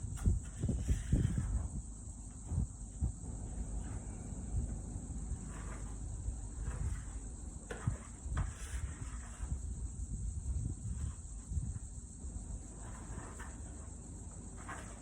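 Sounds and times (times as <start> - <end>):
insects chirring: 0.3 - 15.0.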